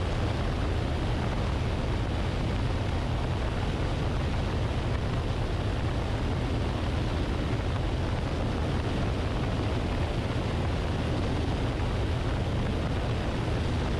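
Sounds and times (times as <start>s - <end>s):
low engine drone: 0.0s - 13.9s
wind rushing over camera: 0.0s - 13.9s.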